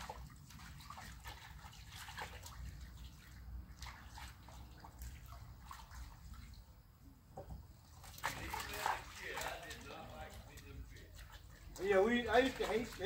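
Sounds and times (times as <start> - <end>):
small water splashes and trickles: 0.0 - 13.0.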